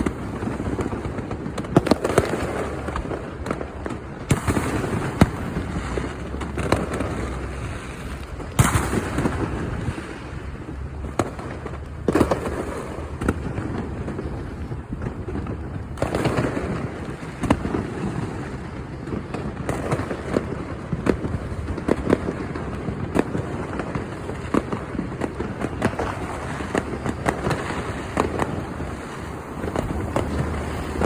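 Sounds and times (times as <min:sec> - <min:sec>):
distant fireworks rumble: 0:00.0 - 0:31.0
sharp fireworks bangs and crackles: 0:00.0 - 0:31.0.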